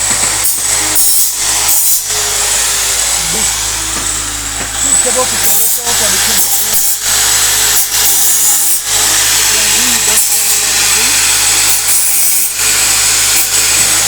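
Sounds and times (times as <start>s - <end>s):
power tool working: 0.0s - 14.0s.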